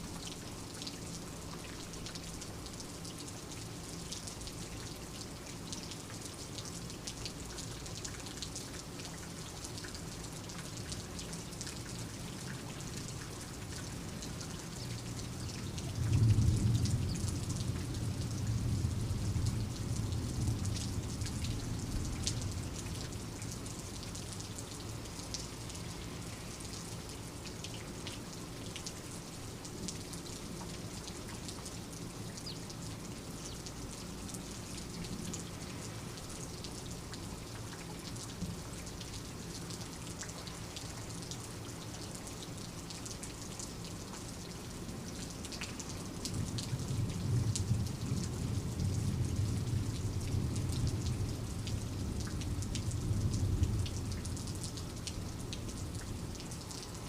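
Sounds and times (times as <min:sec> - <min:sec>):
rain drops ticking: 0:00.0 - 0:57.0.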